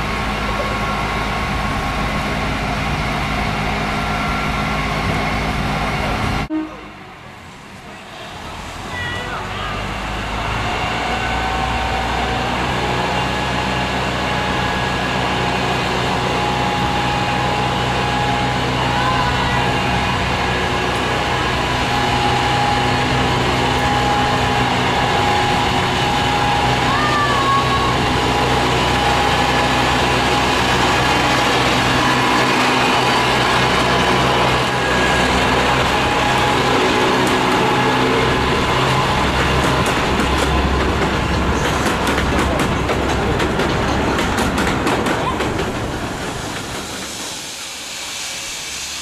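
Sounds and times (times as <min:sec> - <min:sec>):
diesel locomotive engine idling: 0:00.0 - 0:49.0.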